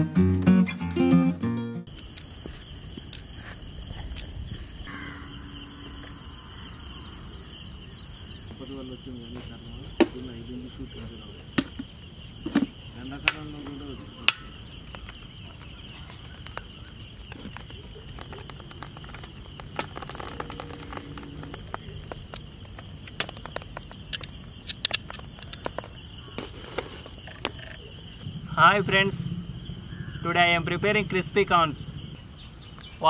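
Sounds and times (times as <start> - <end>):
insects droning: 1.9 - 33.0.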